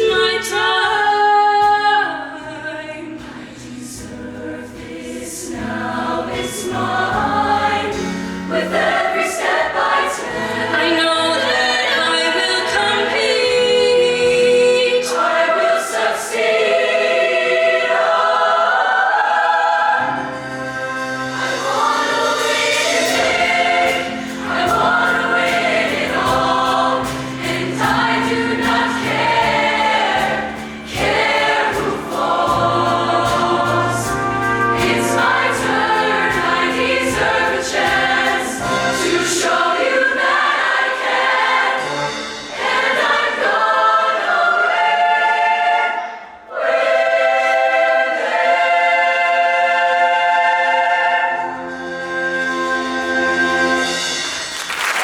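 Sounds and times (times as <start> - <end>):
choir singing in harmony: 0.0 - 54.5.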